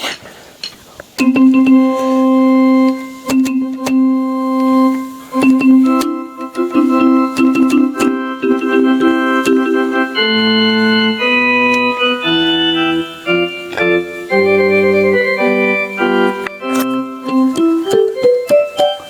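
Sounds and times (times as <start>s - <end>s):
keyboard playing organ tone melody: 1.2s - 19.0s.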